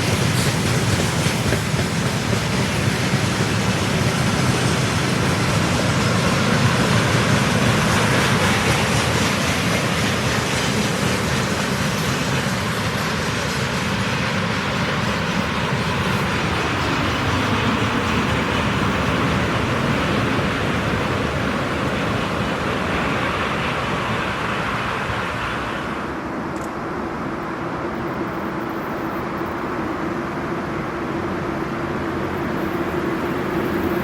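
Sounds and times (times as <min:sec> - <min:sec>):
freight train wheels on rails: 0:00.0 - 0:34.0.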